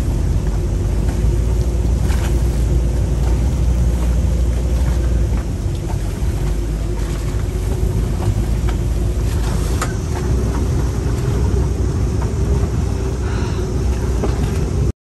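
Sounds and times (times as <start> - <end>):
low hum: 0.0 - 14.9
wind buffeting microphone: 0.0 - 14.9.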